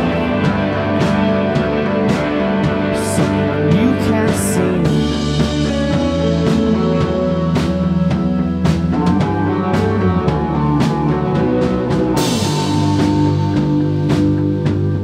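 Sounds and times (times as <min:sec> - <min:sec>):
drums steady beat: 0:00.0 - 0:15.0
rock band playing live: 0:00.0 - 0:15.0.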